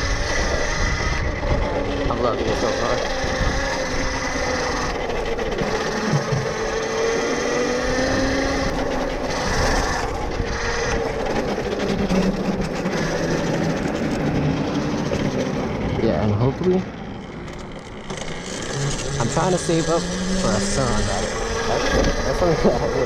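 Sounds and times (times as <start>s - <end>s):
electric dirt bike motor whine: 0.0s - 23.0s
wind and tyre noise: 0.0s - 23.0s.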